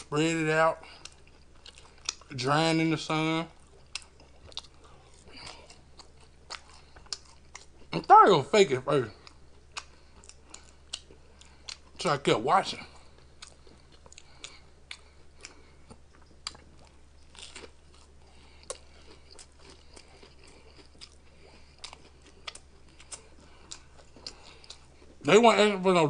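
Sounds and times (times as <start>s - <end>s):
person chewing: 0.8s - 2.4s, 3.2s - 8.1s, 9.0s - 12.1s, 12.7s - 25.3s.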